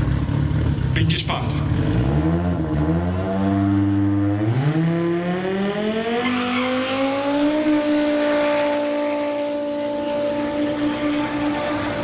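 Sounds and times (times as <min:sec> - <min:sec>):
race car engine accelerating: 0:01.6 - 0:12.0.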